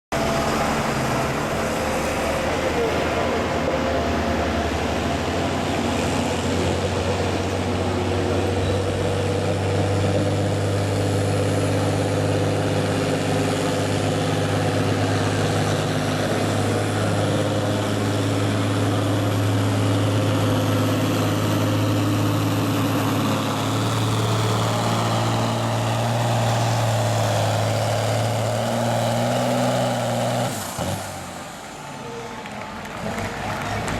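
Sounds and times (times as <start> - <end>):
tractor engine running under load: 0.1 - 33.9.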